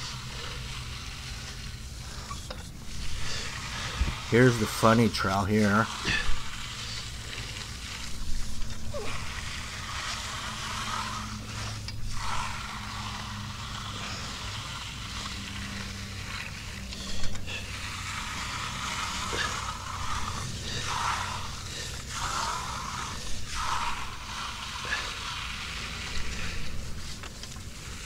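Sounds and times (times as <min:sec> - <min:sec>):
trowel scraping wet concrete: 0:00.0 - 0:28.0.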